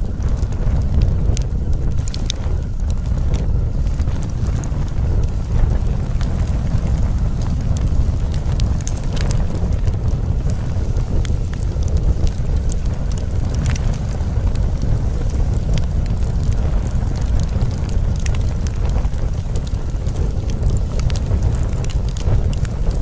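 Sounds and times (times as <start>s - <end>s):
faint crackles and clicks: 0.0s - 23.0s
steady low rumbling noise: 0.0s - 23.0s.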